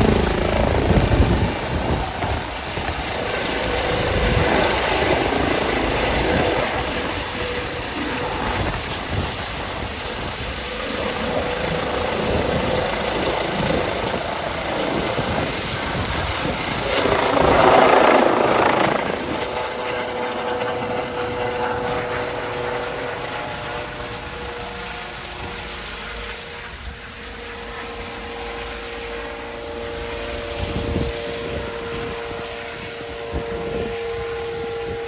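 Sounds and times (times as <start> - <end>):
helicopter running: 0.0 - 35.0.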